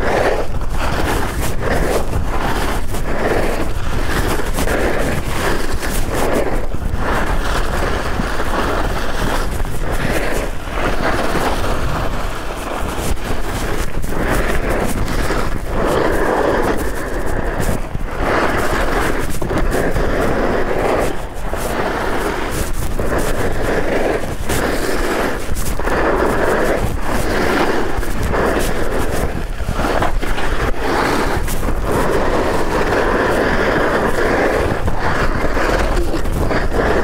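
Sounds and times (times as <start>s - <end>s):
skis scraping icy snow: 0.0s - 37.0s
wind rumble on microphone: 0.0s - 37.0s.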